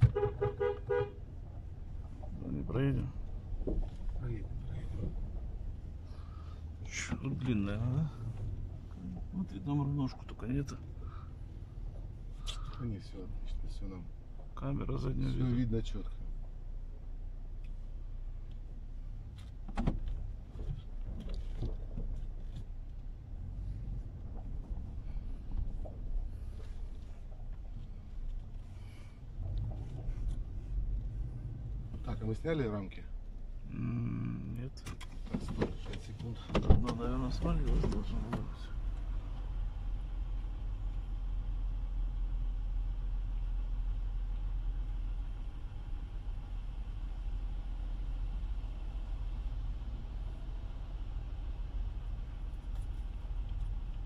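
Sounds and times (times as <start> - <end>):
truck engine rumble from inside cab: 0.0 - 54.0.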